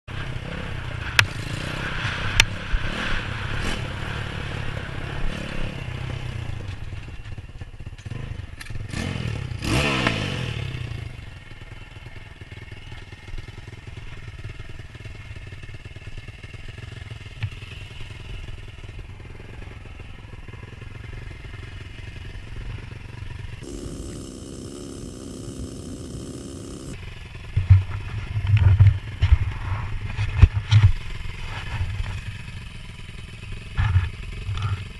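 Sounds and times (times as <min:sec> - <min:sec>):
motorbike engine: 0:00.1 - 0:34.9.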